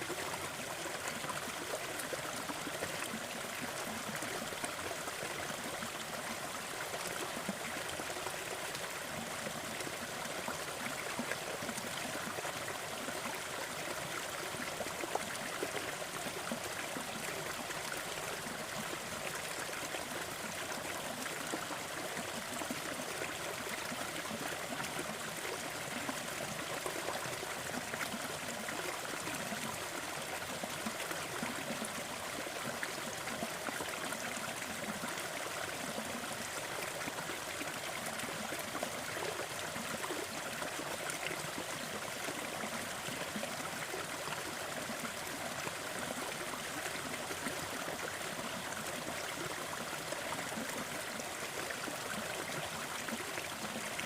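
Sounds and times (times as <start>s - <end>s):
waterfall splashing and trickling: 0.0s - 54.0s.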